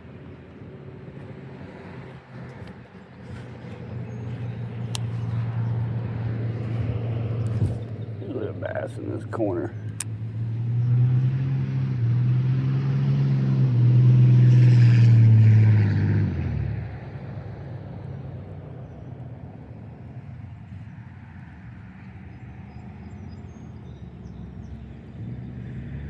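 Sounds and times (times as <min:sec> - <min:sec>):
golf cart humming: 0:02.4 - 0:14.3, 0:16.4 - 0:26.0.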